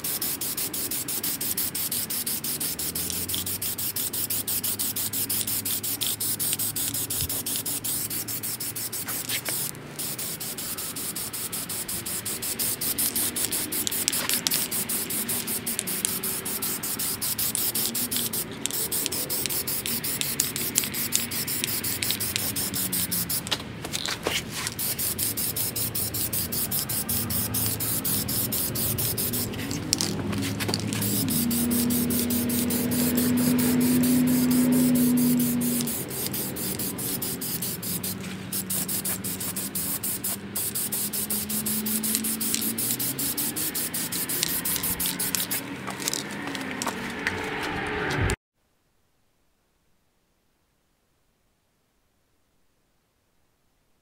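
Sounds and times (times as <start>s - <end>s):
spray paint can hissing: 0.0s - 48.3s.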